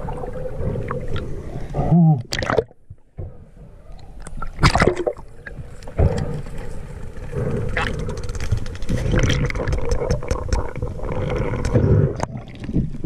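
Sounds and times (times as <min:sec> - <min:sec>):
water gurgling and sloshing: 0:00.0 - 0:13.0.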